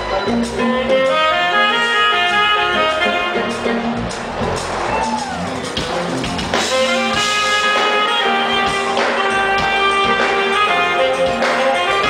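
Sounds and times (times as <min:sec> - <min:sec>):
drums: 0:00.0 - 0:12.0
electric bass: 0:00.0 - 0:12.0
guitar: 0:00.0 - 0:12.0
keyboards: 0:00.0 - 0:12.0
saxophone melody: 0:00.0 - 0:12.0.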